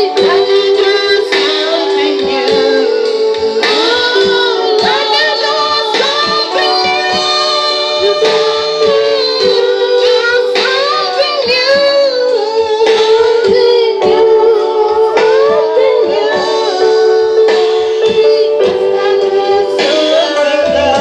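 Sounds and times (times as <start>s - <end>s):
keyboard accompaniment with beat: 0.0s - 21.0s
woman singing: 0.0s - 21.0s.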